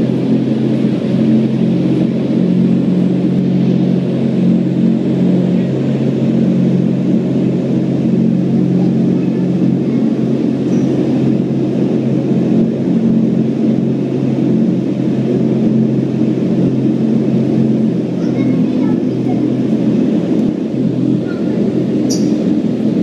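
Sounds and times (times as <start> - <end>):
low fan hum: 0.0 - 23.0.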